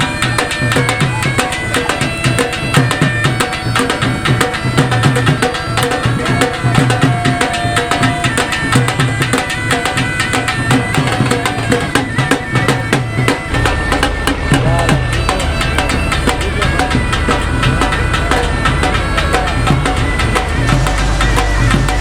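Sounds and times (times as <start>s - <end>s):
music with fast drum beat: 0.0s - 22.0s.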